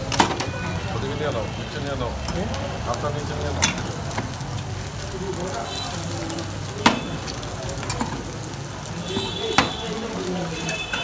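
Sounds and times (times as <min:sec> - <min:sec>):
eggs sizzling on a griddle: 0:00.0 - 0:11.0.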